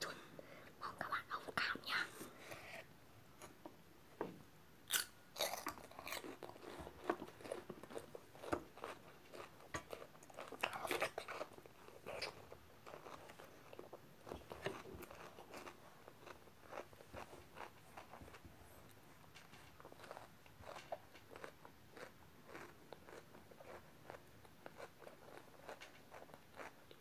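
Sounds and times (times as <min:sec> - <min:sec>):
boy chewing crunchy food: 0:04.9 - 0:27.0.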